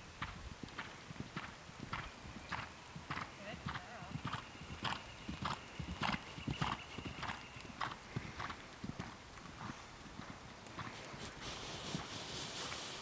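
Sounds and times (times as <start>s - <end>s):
hoofbeats on sand: 0.2s - 13.0s.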